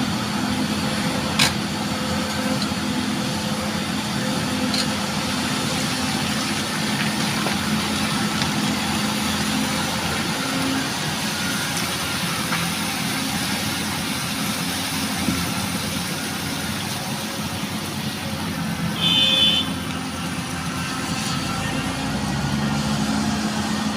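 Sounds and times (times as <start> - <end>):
excavator engine running: 0.0 - 23.9.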